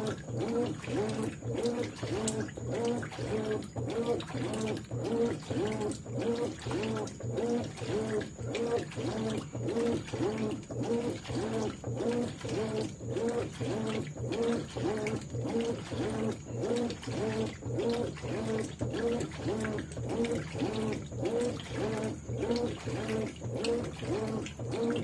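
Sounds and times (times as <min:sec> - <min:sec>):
washing machine agitating: 0:00.0 - 0:25.0.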